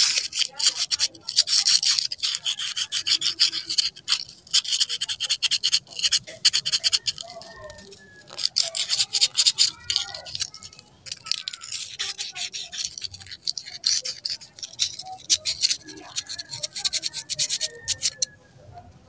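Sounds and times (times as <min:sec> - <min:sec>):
sandpaper scrubbing metal: 0:00.0 - 0:18.3.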